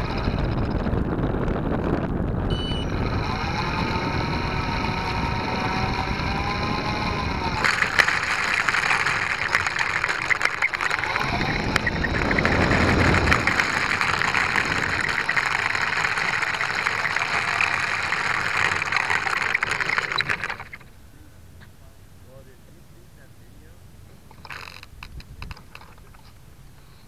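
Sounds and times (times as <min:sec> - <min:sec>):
electric motor and propeller whirring: 0:00.0 - 0:21.0, 0:24.0 - 0:27.0.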